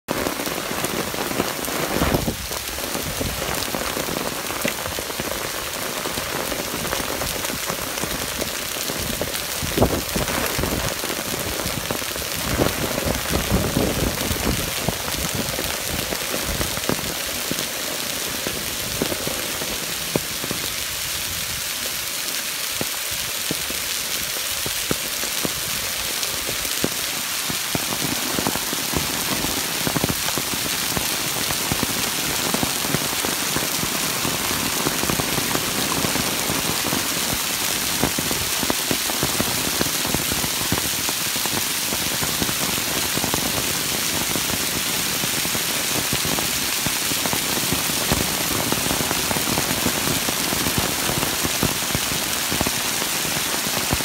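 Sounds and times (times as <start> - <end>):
heavy rain on stone and trees: 0.0 - 54.0.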